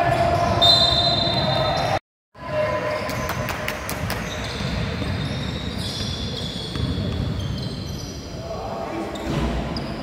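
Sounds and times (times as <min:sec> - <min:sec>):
din of play in sports hall: 0:00.0 - 0:10.0.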